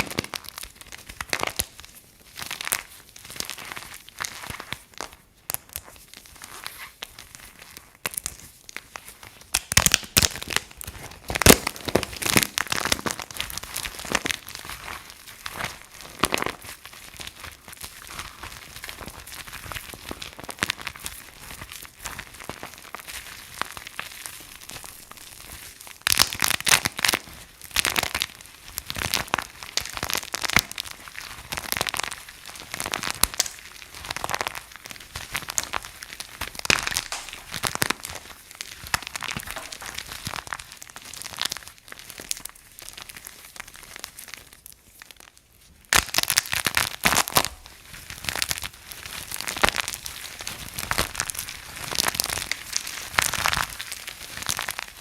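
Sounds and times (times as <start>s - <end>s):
soap crunching and crackling: 0.0s - 55.0s.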